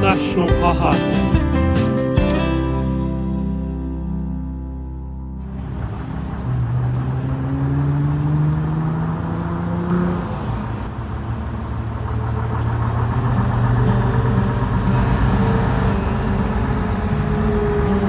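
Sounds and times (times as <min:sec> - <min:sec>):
electric tram motors humming: 0:01.4 - 0:18.0.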